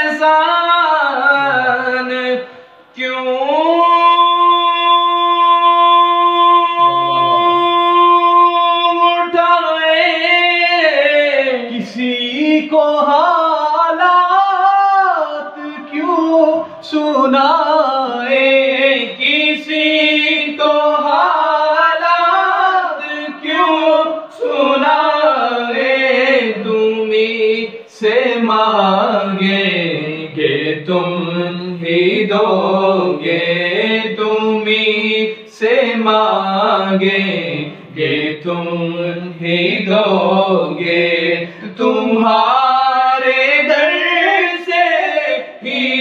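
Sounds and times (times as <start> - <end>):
man singing: 0.0 - 46.0.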